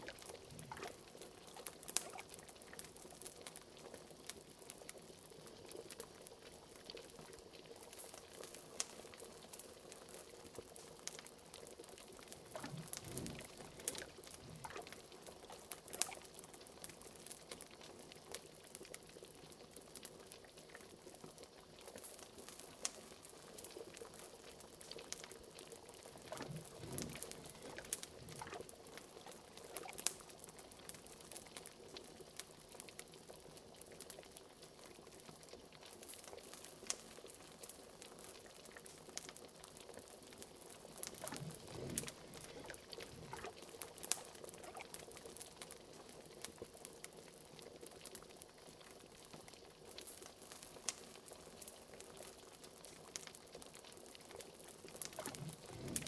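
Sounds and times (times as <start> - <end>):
crackling fire: 0.0 - 56.0
liquid bubbling at a boil: 0.0 - 56.0.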